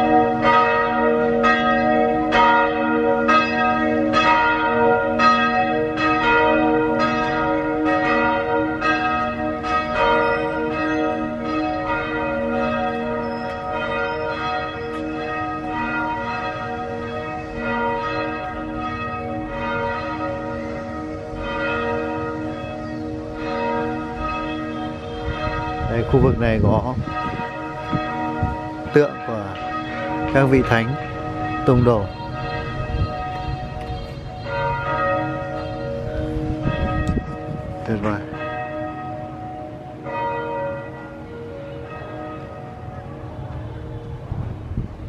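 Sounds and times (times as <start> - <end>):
church bell ringing: 0.0 - 45.0.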